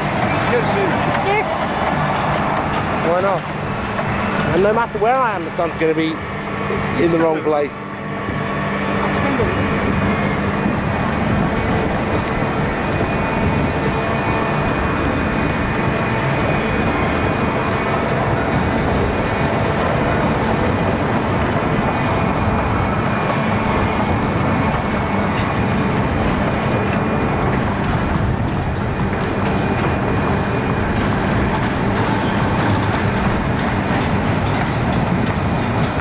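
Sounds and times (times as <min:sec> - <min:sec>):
fairground ride mechanical drone: 0:00.0 - 0:36.0
low hum: 0:00.0 - 0:36.0.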